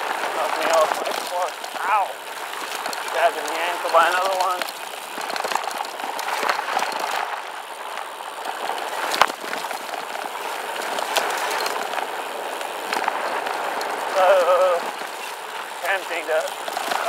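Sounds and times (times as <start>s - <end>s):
bike tyre noise on gravel: 0.0s - 17.0s.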